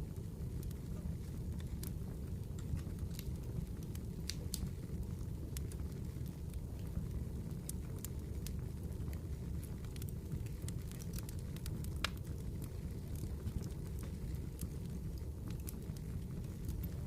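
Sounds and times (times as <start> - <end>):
campfire crackles and pops: 0.0 - 17.0
low rumble of flames: 0.0 - 17.0.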